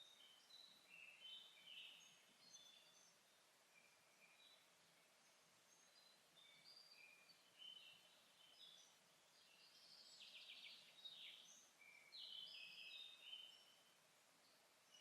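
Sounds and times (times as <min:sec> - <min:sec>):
faint songbirds singing: 0:00.0 - 0:15.0.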